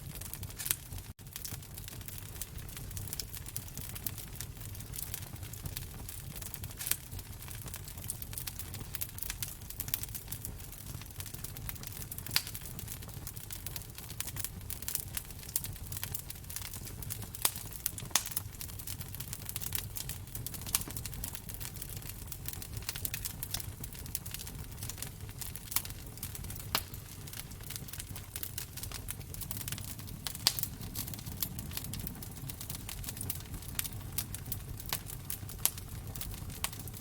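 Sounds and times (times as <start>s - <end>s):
loud fire pops: 0.0s - 37.0s
low rumble of flames: 0.0s - 37.0s
wood fire crackling: 0.0s - 37.0s.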